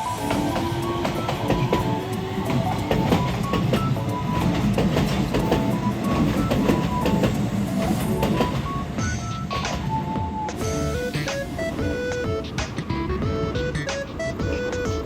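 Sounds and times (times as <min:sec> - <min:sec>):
background music: 0:00.0 - 0:15.0
electric train rumbling past: 0:00.0 - 0:15.0
wheels clicking over rail joints: 0:00.0 - 0:15.0.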